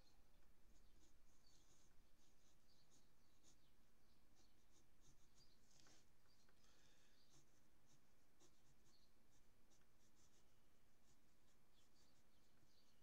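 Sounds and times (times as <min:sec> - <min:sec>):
pencil scratching on paper: 0:00.7 - 0:03.7, 0:04.3 - 0:06.5, 0:07.2 - 0:13.0.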